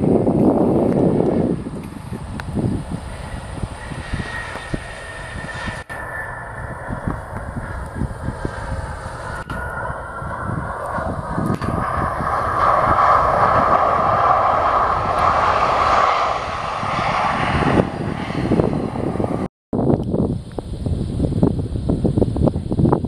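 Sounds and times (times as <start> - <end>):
jet engine roar: 0.0 - 19.5.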